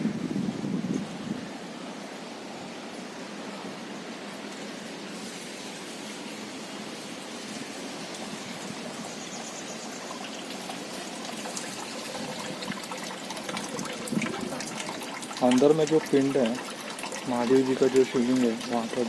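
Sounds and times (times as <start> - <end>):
water trickling into a drain: 2.2 - 19.0.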